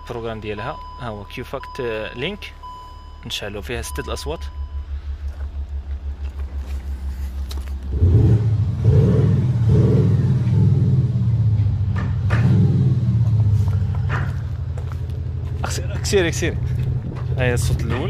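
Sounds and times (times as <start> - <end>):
synthetic exhaust rumble: 3.5 - 18.0.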